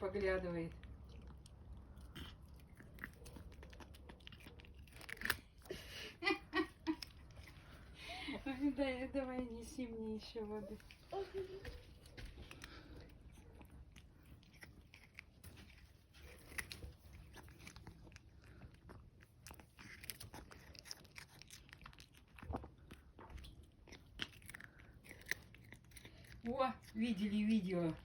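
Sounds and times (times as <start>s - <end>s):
cat crunching cucumber: 0.0s - 28.0s.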